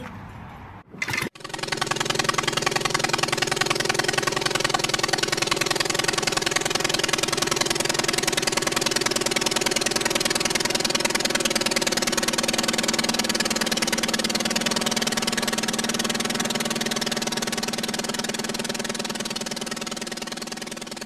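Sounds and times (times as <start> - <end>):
aircraft piston engine running: 1.3 - 21.0.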